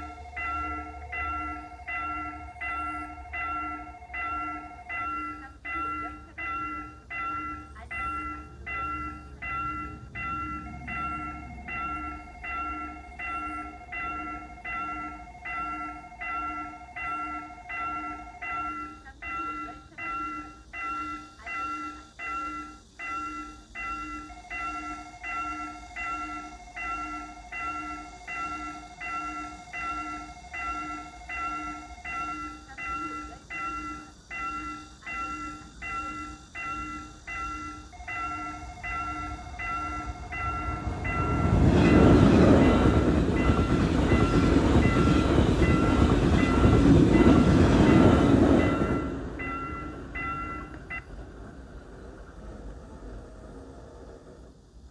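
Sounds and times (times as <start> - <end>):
steady high tone: 0.0 - 51.2
level-crossing warning bell: 0.0 - 54.9.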